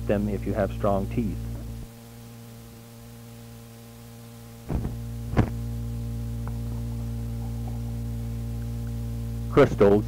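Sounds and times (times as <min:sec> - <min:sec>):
mains hum: 0:00.0 - 0:10.0.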